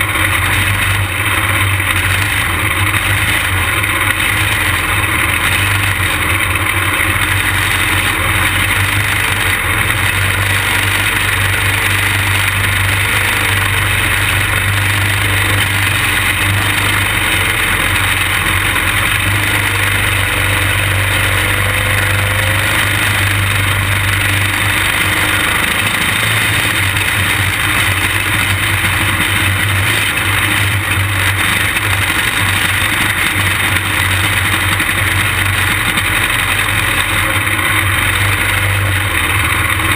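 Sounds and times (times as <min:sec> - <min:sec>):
small race car engine running: 0:00.0 - 0:39.9.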